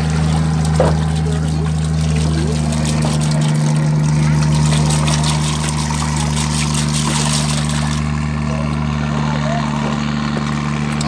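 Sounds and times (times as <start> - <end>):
pellets splashing into water: 0.0 - 8.9
fish splashing at water surface: 0.0 - 11.0
motor humming: 0.0 - 11.0.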